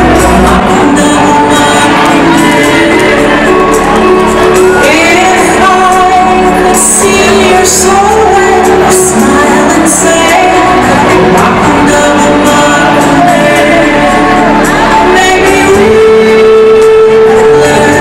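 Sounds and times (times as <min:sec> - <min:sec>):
loud pop music with singing: 0:00.0 - 0:18.0.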